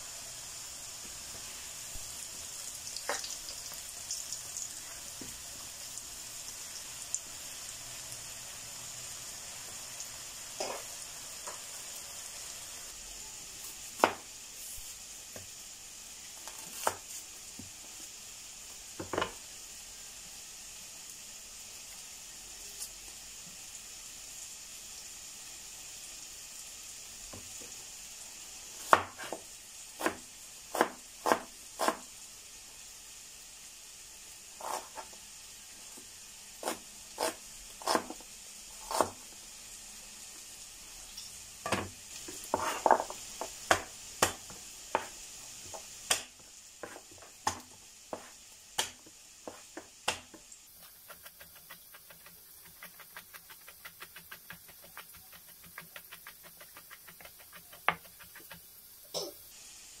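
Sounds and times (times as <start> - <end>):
faint hiss: 0.0 - 60.0.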